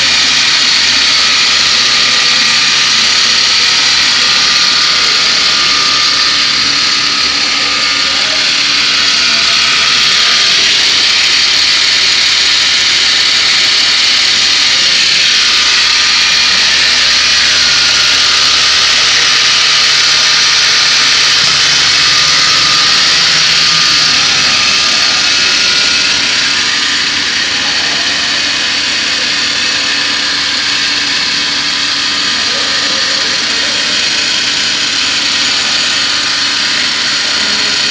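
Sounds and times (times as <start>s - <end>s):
cnc router whine: 0.0s - 37.9s.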